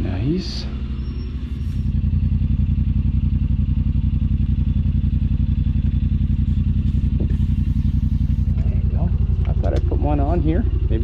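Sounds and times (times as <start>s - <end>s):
utility vehicle engine idling: 0.0s - 11.0s.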